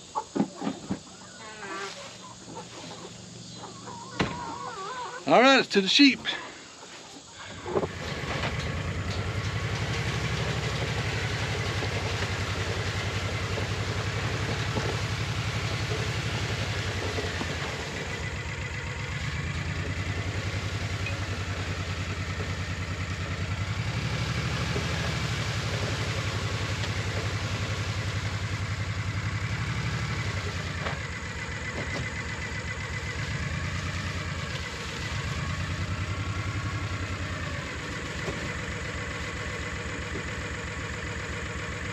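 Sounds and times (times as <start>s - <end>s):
small vehicle engine running: 7.4s - 41.9s.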